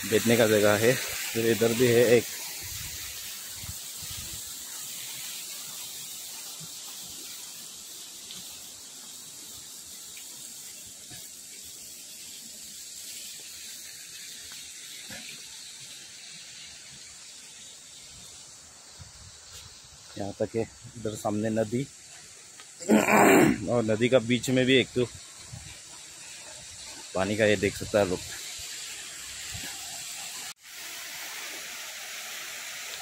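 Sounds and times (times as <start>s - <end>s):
high-pitched outdoor hiss: 0.0s - 33.0s.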